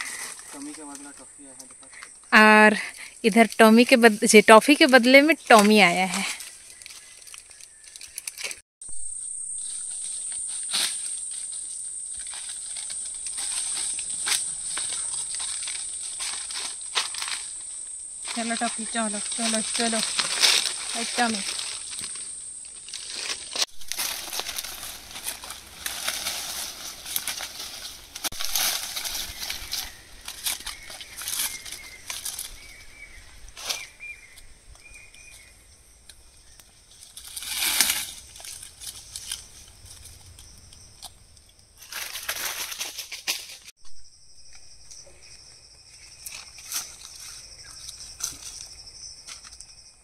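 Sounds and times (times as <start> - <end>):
dry leaves rustling and crunching: 0.0 - 1.2, 5.0 - 8.6, 10.0 - 35.4, 36.4 - 40.6, 41.8 - 43.7, 45.9 - 49.6.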